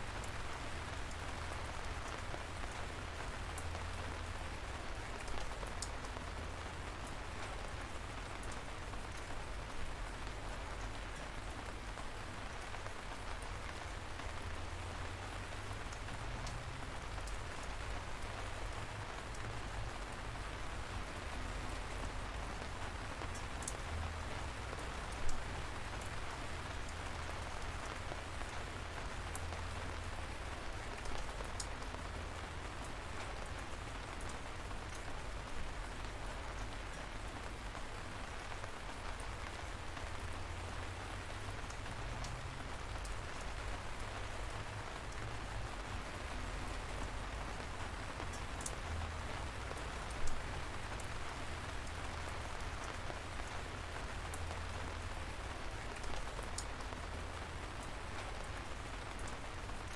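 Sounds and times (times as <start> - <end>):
light rain hiss: 0.0 - 59.9
raindrops ticking: 0.0 - 59.9.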